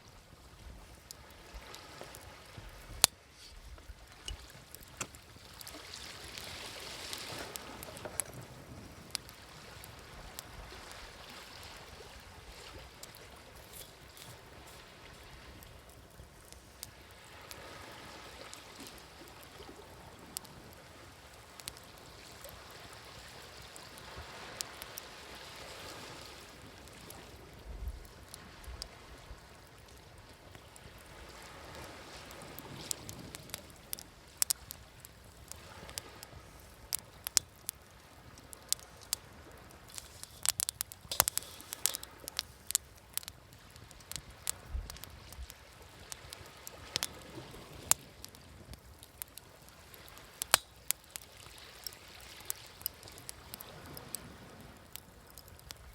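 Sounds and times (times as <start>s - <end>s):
waves washing on shore: 0.0s - 55.9s
wood fire crackling and popping: 0.8s - 55.9s.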